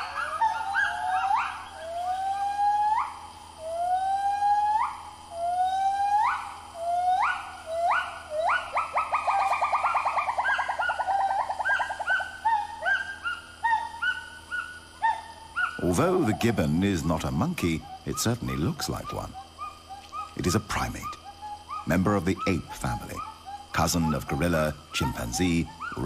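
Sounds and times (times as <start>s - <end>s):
gibbons whooping: 0.0s - 26.0s.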